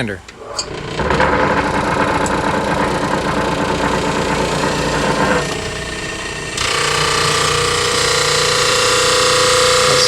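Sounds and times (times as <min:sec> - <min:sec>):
drum sander droning: 0:00.2 - 0:10.0.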